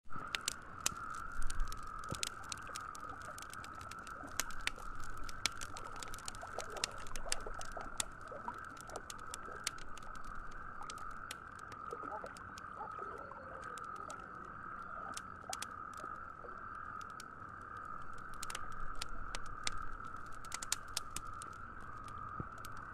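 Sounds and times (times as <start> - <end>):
campfire crackling: 0.0 - 22.9.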